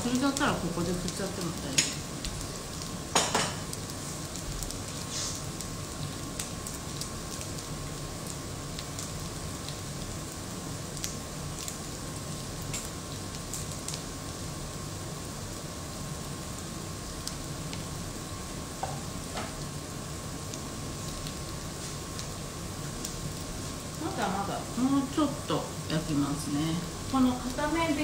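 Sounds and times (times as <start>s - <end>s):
batter sizzling in a frying pan: 0.0s - 28.0s.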